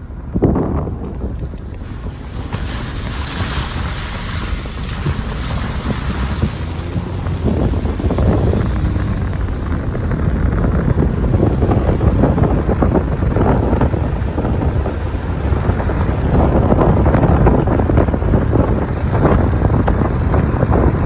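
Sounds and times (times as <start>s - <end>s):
road and engine rumble: 0.0s - 21.0s
wind buffeting microphone: 0.0s - 21.0s.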